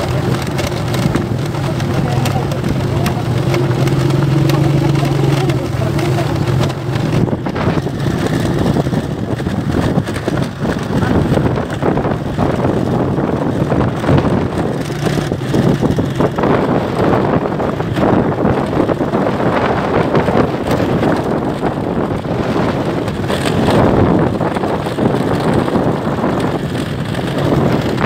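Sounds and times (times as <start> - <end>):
vehicle engine hum: 0.0 - 28.0
wind buffeting microphone: 0.0 - 28.0.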